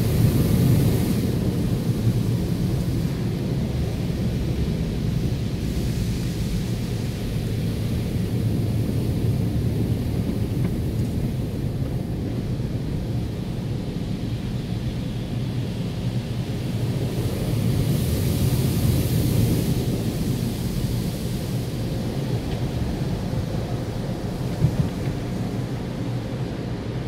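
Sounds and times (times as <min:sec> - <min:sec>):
car wash brushes and water rumbling: 0:00.0 - 0:27.0.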